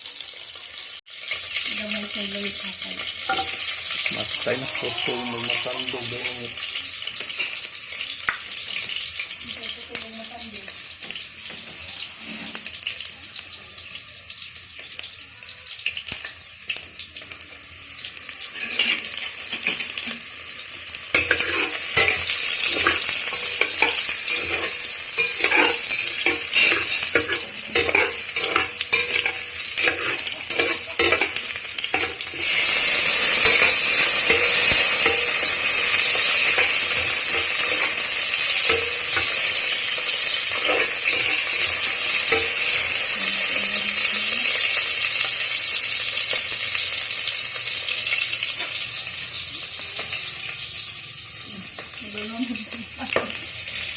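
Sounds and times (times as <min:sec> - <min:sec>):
food sizzling in hot oil: 0:00.0 - 0:53.9.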